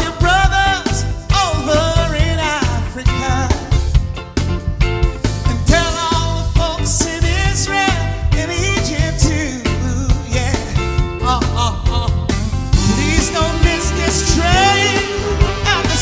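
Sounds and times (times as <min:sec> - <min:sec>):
soul band playing: 0:00.0 - 0:16.0.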